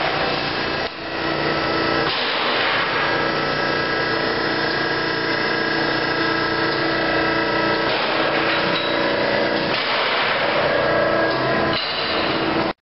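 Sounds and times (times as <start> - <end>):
washing machine motor hum: 0.0 - 12.8.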